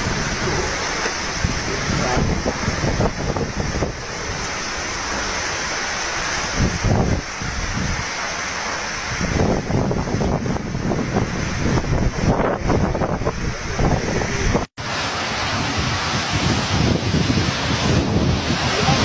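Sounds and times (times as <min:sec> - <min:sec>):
storm surf: 0:00.0 - 0:19.0
wind buffeting microphone: 0:00.0 - 0:19.0
wind-driven rain: 0:00.0 - 0:19.0.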